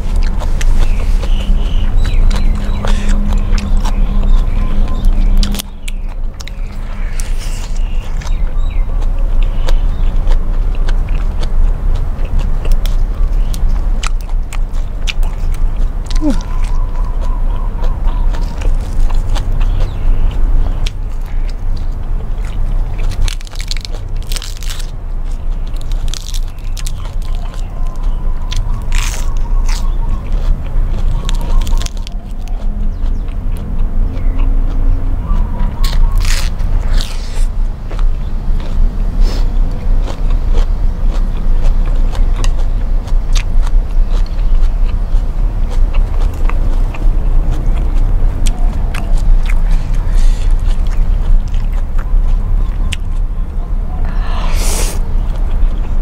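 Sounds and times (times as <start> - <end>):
chewing crisp leafy greens: 0.0 - 56.0.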